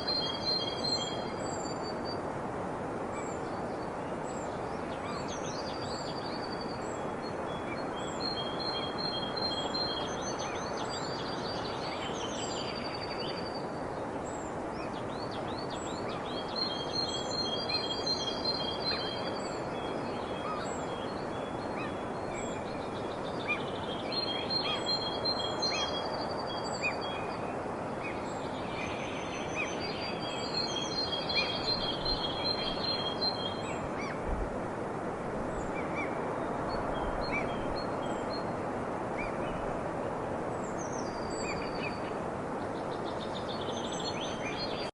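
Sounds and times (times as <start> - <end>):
songbirds singing: 0.0 - 2.4, 3.0 - 44.9
steady background hiss: 0.0 - 44.9.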